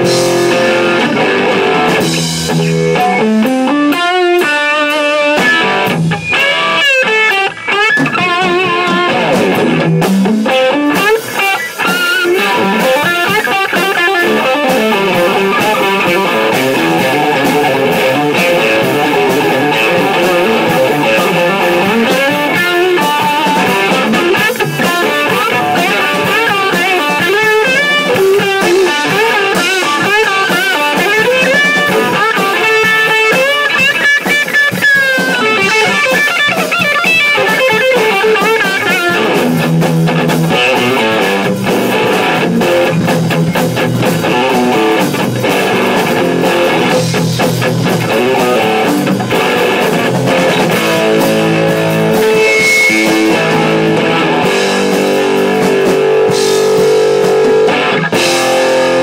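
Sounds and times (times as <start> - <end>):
distorted electric guitar: 0.0 - 59.0.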